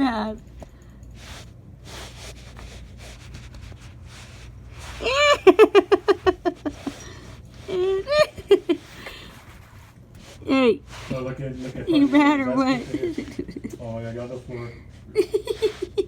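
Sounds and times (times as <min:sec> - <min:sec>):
faint rustling: 0:00.6 - 0:16.0.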